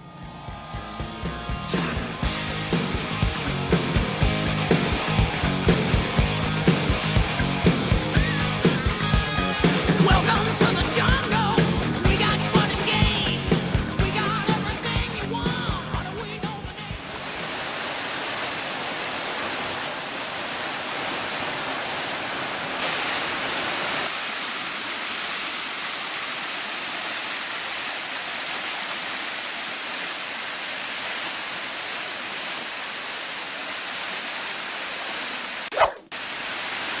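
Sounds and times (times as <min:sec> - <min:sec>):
waterfall rushing: 0:01.9 - 0:13.8, 0:16.4 - 0:37.0.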